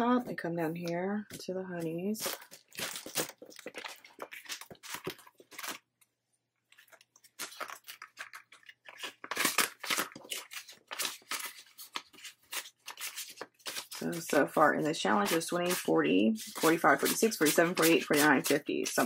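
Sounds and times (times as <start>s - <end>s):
paper and plastic rustling: 1.3s - 5.9s, 6.6s - 19.0s.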